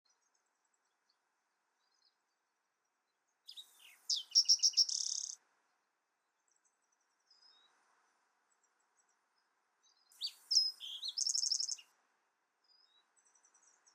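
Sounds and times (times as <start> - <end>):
faint bird chirp: 0.0 - 5.4, 6.2 - 13.9
songbird singing: 0.0 - 5.5, 6.2 - 13.9.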